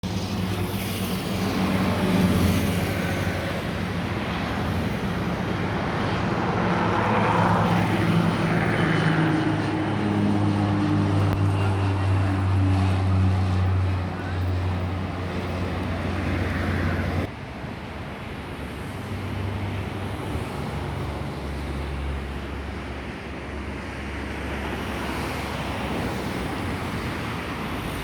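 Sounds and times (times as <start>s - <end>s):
jet engines on approach: 0.0s - 28.0s.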